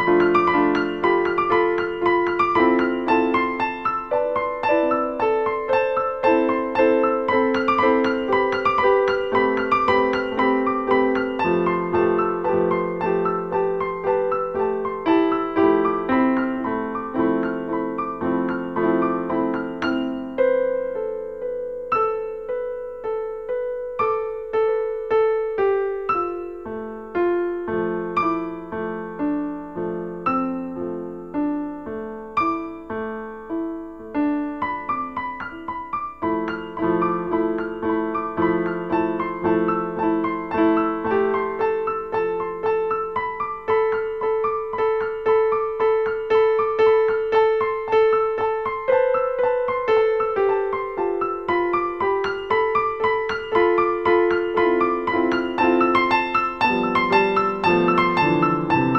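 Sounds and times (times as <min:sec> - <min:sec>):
piano music: 0:00.0 - 0:58.9.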